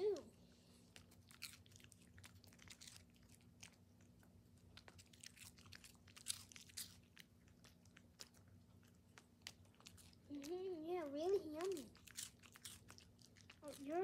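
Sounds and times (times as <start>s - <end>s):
dog chewing crunchy food: 0.8s - 14.0s.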